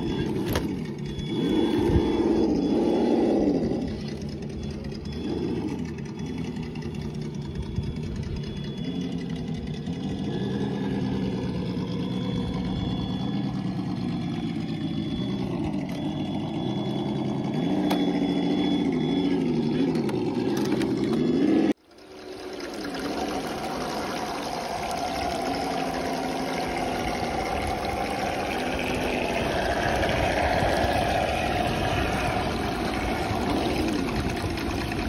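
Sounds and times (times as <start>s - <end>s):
simulated engine sound: 0.0s - 35.0s.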